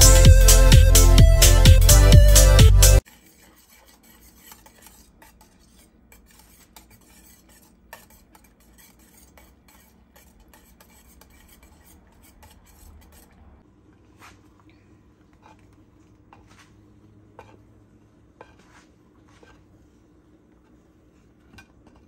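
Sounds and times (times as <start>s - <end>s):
whisk scraping a metal pan: 0.0s - 13.6s, 15.3s - 16.8s, 17.4s - 17.7s, 18.4s - 22.0s.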